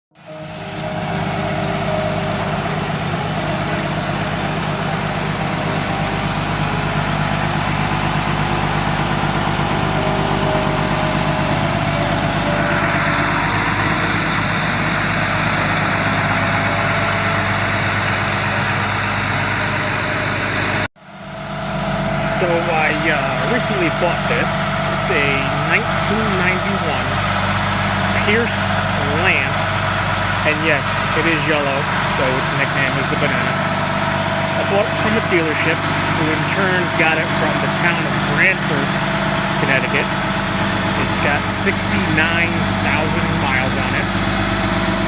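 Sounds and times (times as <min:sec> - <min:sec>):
fire engine diesel idling: 0:00.2 - 0:45.0.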